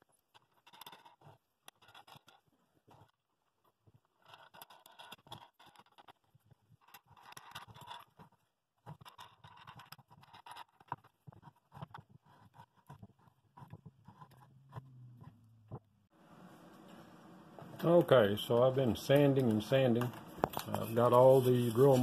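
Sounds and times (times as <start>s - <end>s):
handling clicks and scraping: 0.0s - 15.9s, 17.7s - 22.0s.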